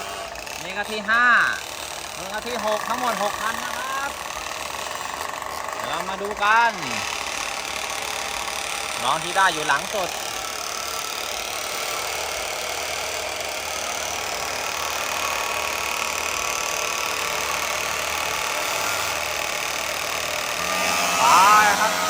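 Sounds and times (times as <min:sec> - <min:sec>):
mini-bike engines running: 0:00.0 - 0:22.0.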